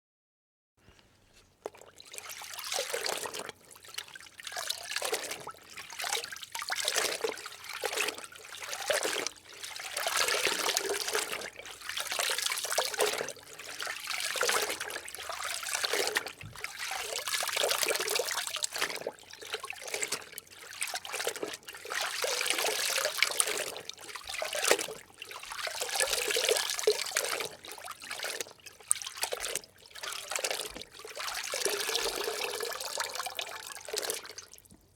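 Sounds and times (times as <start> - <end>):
water sloshing and trickling: 0.8 - 34.9.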